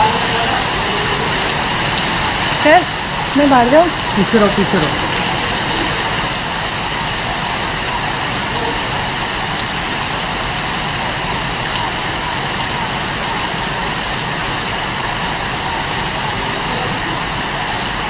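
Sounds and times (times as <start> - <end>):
rain pouring: 0.0 - 18.0.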